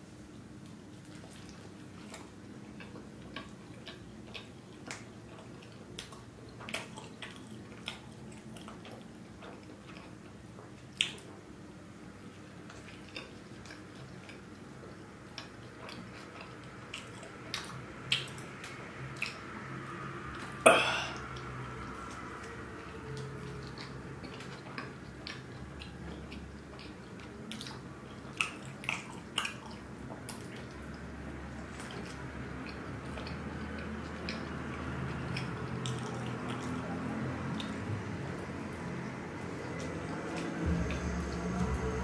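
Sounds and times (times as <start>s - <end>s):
wet chewing and lip-smacking: 0.6s - 11.5s, 12.1s - 20.6s, 21.2s - 42.0s.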